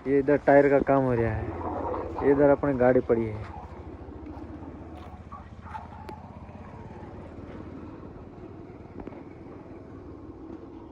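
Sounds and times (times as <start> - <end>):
vehicle engine rumbling: 0.0 - 10.9.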